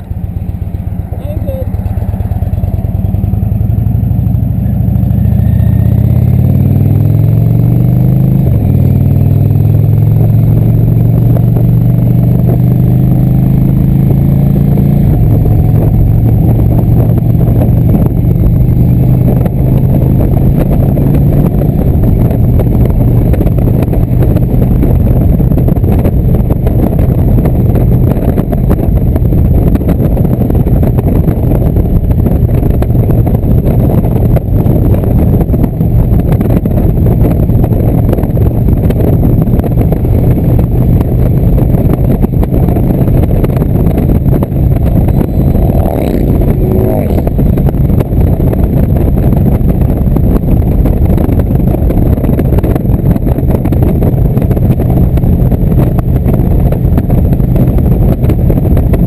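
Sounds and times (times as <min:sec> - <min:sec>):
motorcycle engine cruising: 0:00.0 - 0:59.0
wind rumble on microphone: 0:00.0 - 0:59.0.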